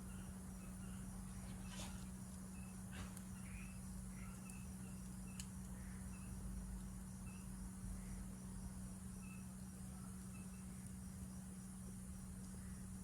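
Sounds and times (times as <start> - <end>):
insects chirping: 0.0 - 13.0
low steady hum: 0.0 - 13.0.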